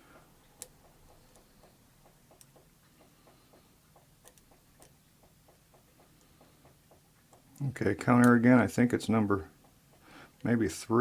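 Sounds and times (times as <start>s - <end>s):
steady faint ticking: 0.0s - 11.0s.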